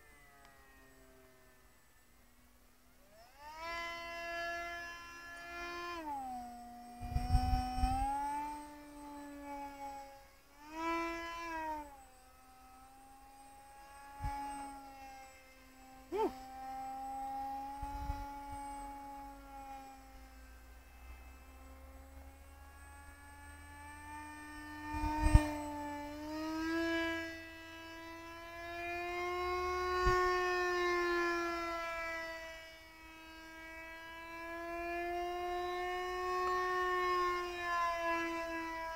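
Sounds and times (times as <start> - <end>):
rc plane motor whining: 0.0 - 38.9.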